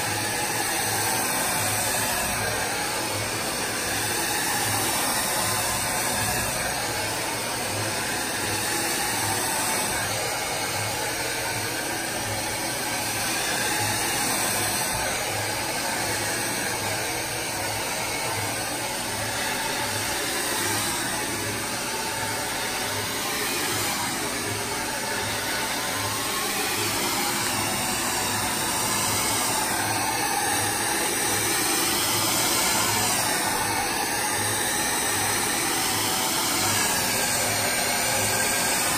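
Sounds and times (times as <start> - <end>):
hair dryer blowing air: 0.0 - 38.9.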